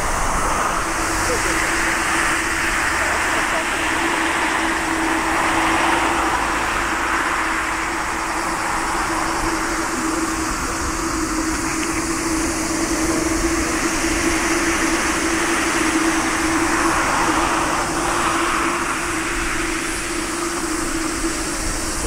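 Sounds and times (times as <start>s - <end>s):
jet engines whining drone: 0.0s - 22.0s.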